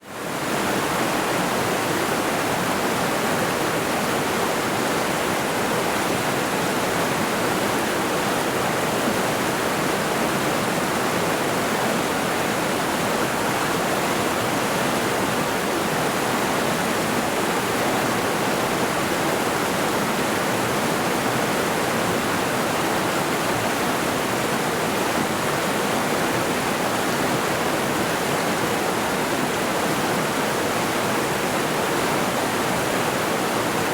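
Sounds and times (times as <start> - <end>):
river rushing over rocks: 0.2 - 33.9.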